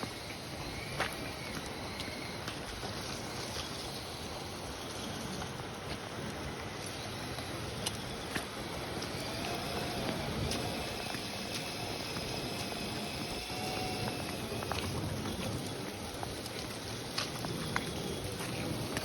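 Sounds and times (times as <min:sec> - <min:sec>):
water churning and sloshing: 0:00.0 - 0:19.0.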